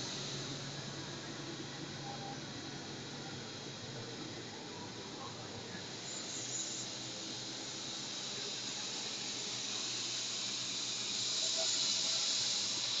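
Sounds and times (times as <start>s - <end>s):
milling machine hiss and whine: 0.0s - 13.0s.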